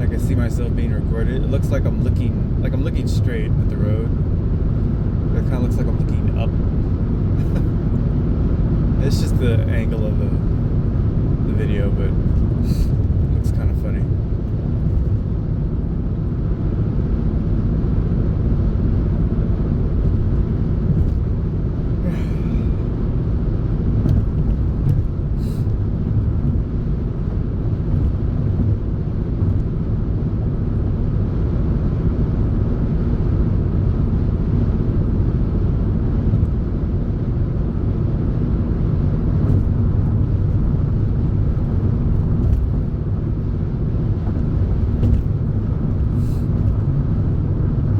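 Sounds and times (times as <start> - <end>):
engine and road rumble: 0.0 - 47.9.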